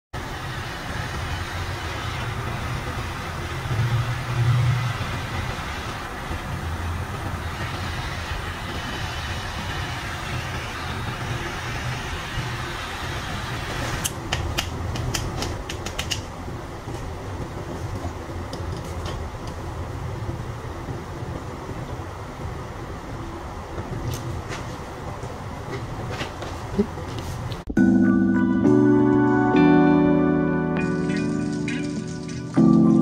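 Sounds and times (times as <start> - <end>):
blowtorch flame hissing: 0.2 - 27.6.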